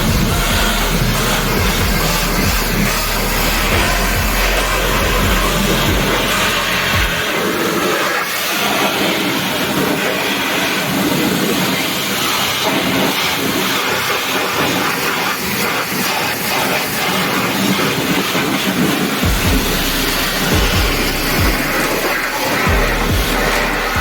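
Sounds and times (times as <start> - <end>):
car wash equipment hissing: 0.0 - 24.0.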